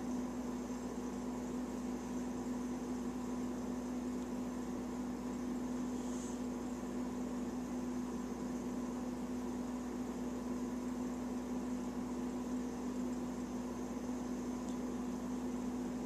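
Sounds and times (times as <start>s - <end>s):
faint hiss: 0.0s - 16.0s
steady low hum: 0.0s - 16.0s.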